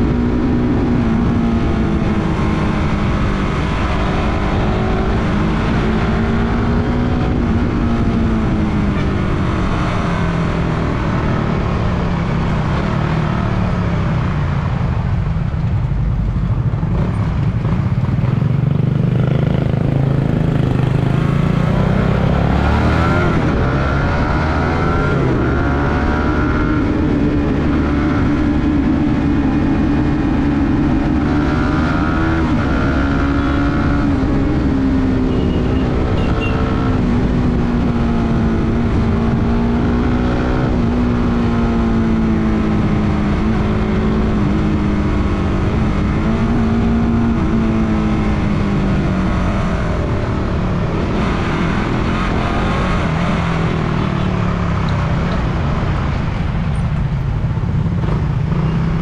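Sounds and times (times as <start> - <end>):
motorcycle engine revving: 0.0 - 15.3, 16.5 - 59.0.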